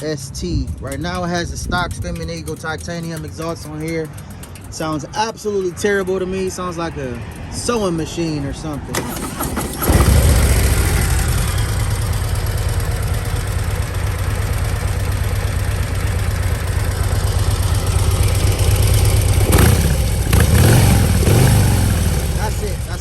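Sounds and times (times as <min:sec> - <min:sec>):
motorcycle engine idling: 0:00.0 - 0:06.8, 0:07.4 - 0:23.0.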